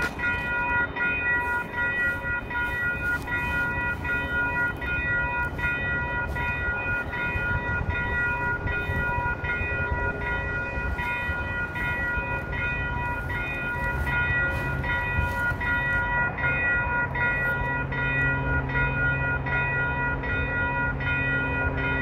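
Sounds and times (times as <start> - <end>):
railroad crossing bell ringing: 0.0 - 22.0.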